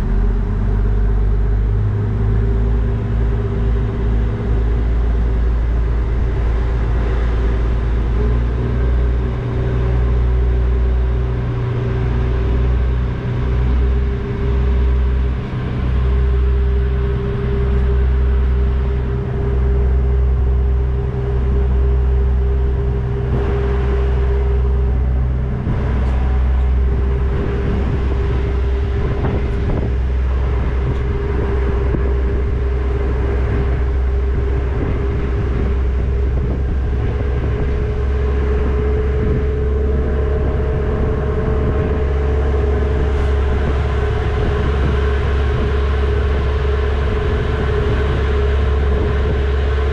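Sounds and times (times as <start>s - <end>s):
ferry engines droning: 0.0s - 49.9s.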